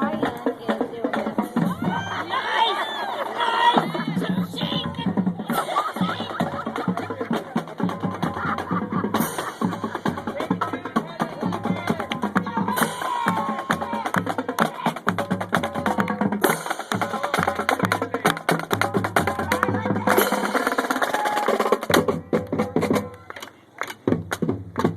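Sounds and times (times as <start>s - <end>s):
rapid drum and percussion hits: 0.0s - 2.6s, 3.2s - 24.9s
marching band playing: 0.0s - 24.9s.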